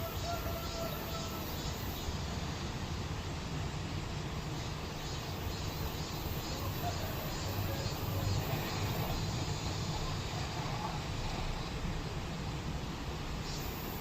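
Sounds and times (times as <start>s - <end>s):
cicada pulsing call: 0.0s - 14.0s
continuous low rumble: 0.0s - 14.0s.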